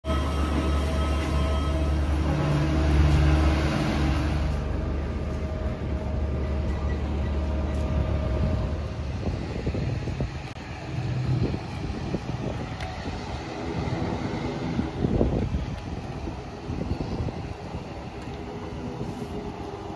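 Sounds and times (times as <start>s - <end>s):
low engine hum: 0.1s - 19.9s.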